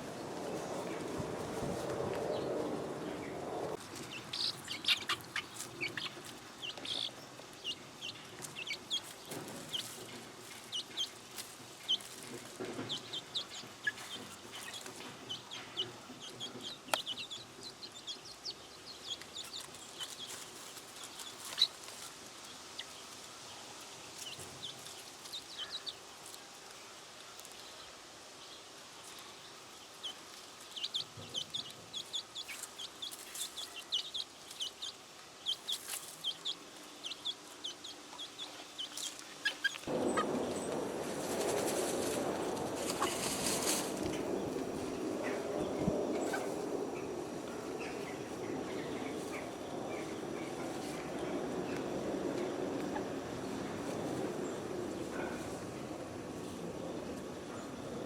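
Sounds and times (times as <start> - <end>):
chickens clucking and calling: 0.0 - 26.1, 29.9 - 56.1.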